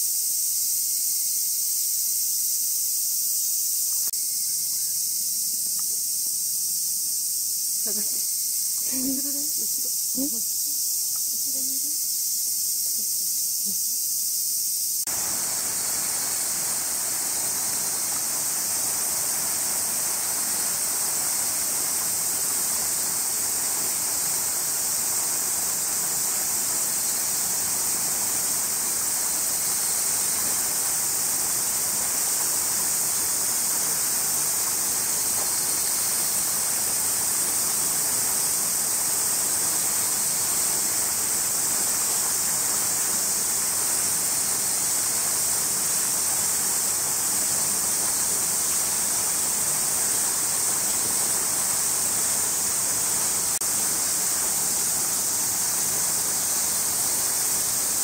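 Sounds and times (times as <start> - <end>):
cicada chorus: 0.0 - 58.0
low hiss: 0.0 - 58.0.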